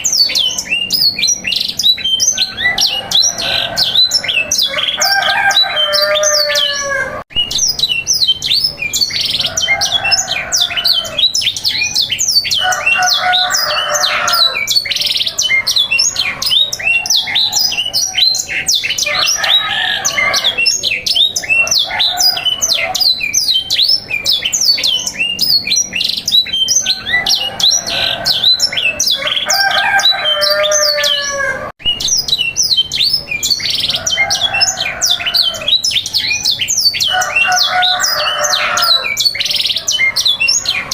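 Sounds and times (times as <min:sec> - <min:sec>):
canary trills and chirps: 0:00.0 - 0:40.9
lower squawking calls: 0:00.0 - 0:40.9.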